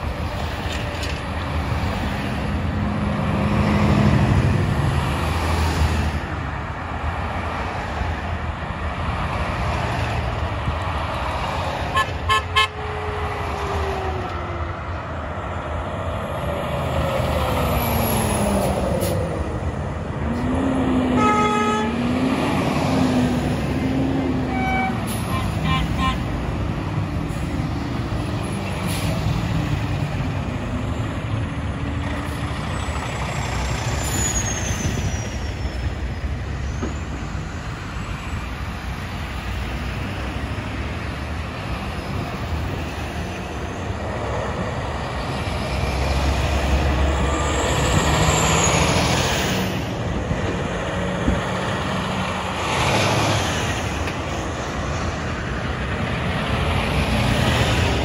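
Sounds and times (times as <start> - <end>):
trucks driving past: 0.0 - 58.0.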